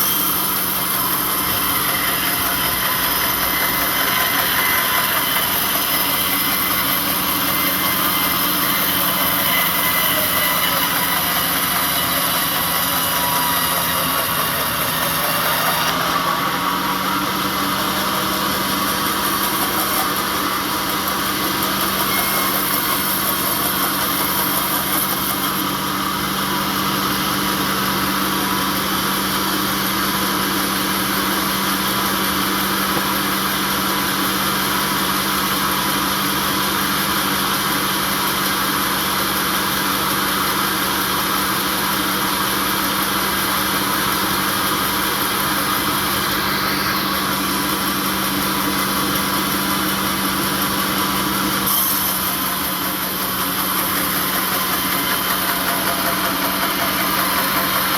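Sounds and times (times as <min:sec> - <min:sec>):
sawmill machinery humming: 0:00.0 - 0:57.9.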